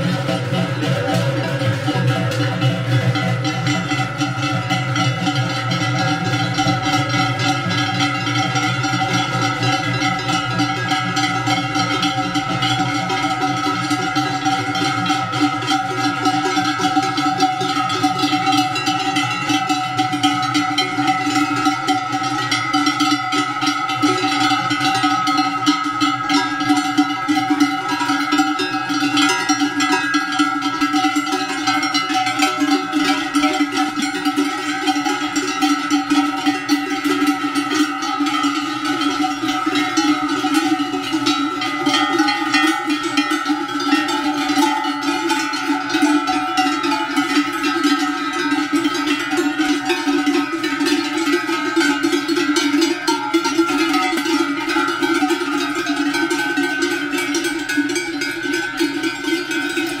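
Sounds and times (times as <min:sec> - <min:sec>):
cowbells clanging: 0:00.0 - 1:00.0.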